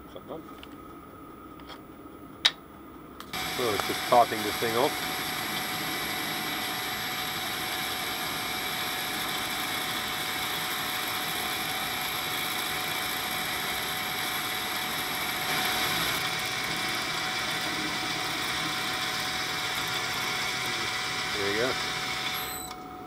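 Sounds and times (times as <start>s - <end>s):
metal lathe motor whine: 3.3s - 23.0s
lathe cutting metal: 3.4s - 22.7s.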